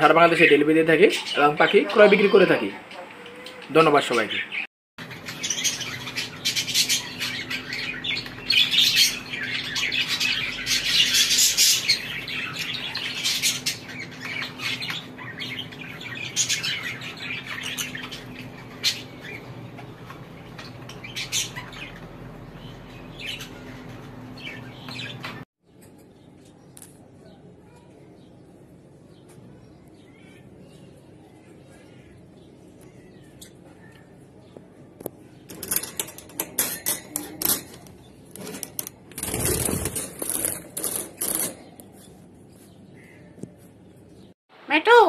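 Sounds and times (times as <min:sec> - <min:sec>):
caged birds squawking and chirping: 0:00.0 - 0:44.4.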